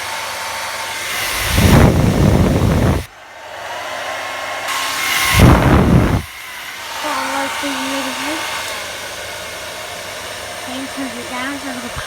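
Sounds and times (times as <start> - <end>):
hair dryer blowing with whine: 0.0 - 12.0.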